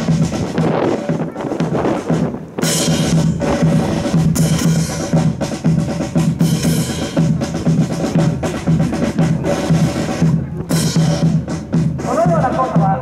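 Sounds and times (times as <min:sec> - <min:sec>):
bass drum beating: 0:00.0 - 0:13.0
snare drum patterns and rolls: 0:00.0 - 0:13.0.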